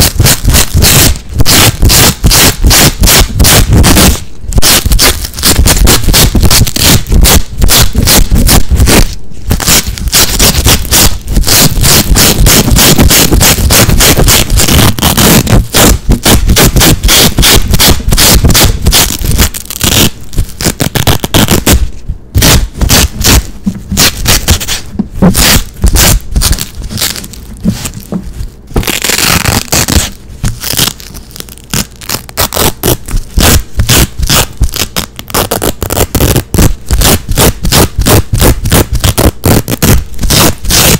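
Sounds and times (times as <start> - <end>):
velcro straps ripping: 0.0 - 40.9.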